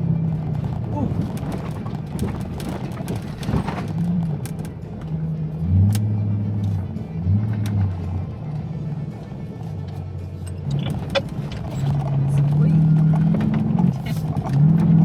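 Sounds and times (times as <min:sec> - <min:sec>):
gravel ticks: 0:00.0 - 0:06.9, 0:09.6 - 0:15.0
background music with bass: 0:00.0 - 0:15.0
truck tyres and engine rumble: 0:00.0 - 0:15.0.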